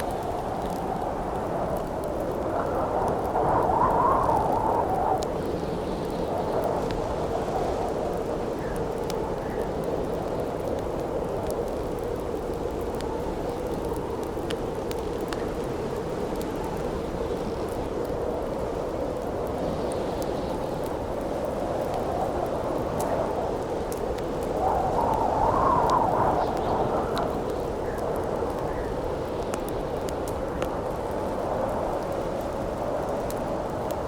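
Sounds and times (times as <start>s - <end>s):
campfire crackles and pops: 0.0s - 34.0s
wind howling: 0.0s - 34.0s.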